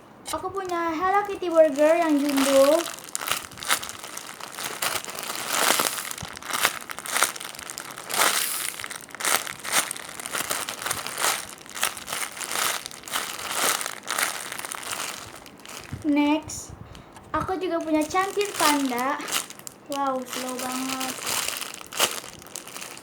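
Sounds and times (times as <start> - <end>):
foam toy crinkling and rustling: 0.3 - 23.0.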